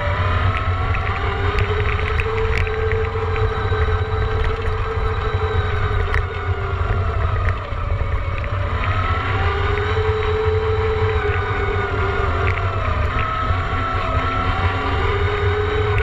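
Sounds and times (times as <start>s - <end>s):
electric motor whining: 0.0s - 16.0s
low rumble of wind and trail: 0.0s - 16.0s.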